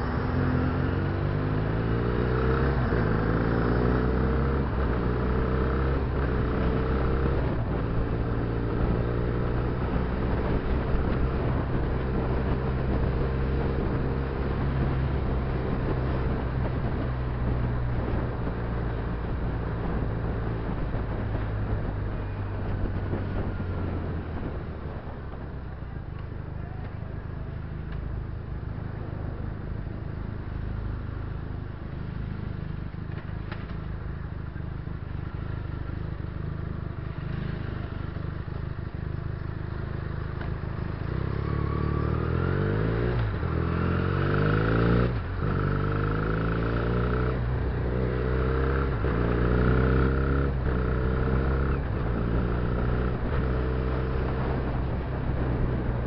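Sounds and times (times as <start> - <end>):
motorcycle engine accelerating: 0.0 - 26.2, 34.9 - 56.0
road noise: 0.0 - 56.0.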